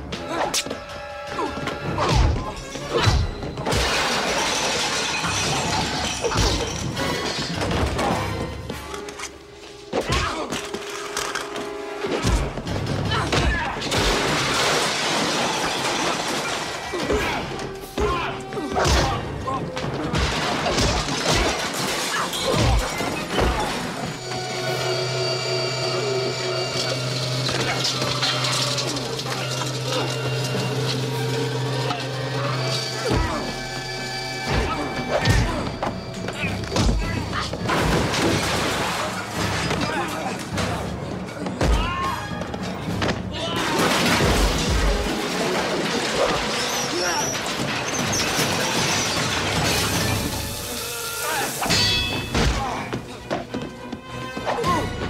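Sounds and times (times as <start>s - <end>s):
film score music: 0.0s - 55.0s
things smashing and shattering: 2.0s - 8.5s, 12.2s - 24.3s, 26.7s - 33.8s, 34.4s - 53.2s.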